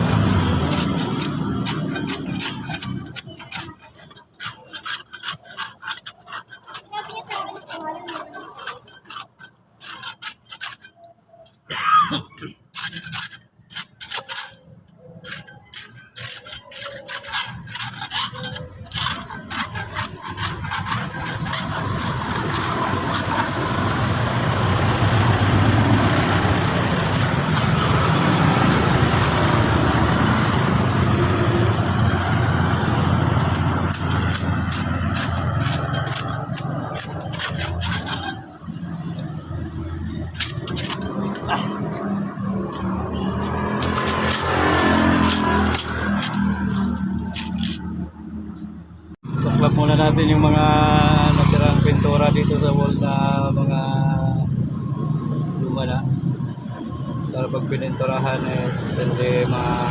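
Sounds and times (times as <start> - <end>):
clicks or scrapes: 0.0 - 11.6, 12.4 - 49.4.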